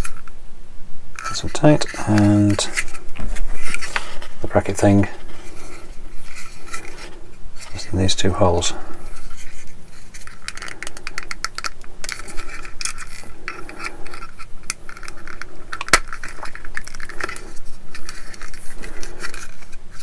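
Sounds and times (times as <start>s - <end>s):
plastic parts clicking and scraping: 1.2s - 20.0s.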